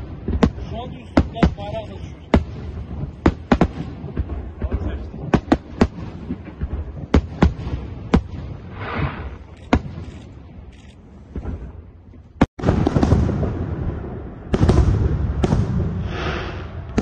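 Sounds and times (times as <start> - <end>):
fireworks bangs and booms: 0.0 - 17.0
fireworks crackling: 0.0 - 17.0.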